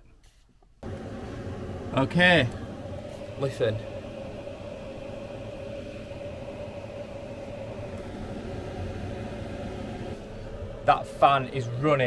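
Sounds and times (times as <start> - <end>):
heater blower fan humming: 0.8 - 12.0.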